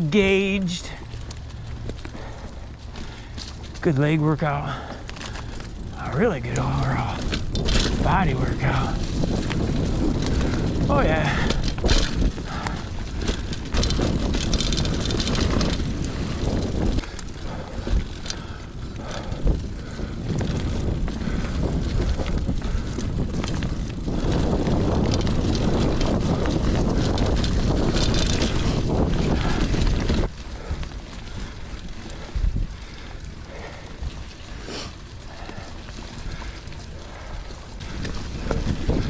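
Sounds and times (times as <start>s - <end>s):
bike rattling: 0.0s - 39.0s
bike tyres on dirt: 0.0s - 39.0s
wind rushing over microphone: 4.6s - 39.0s.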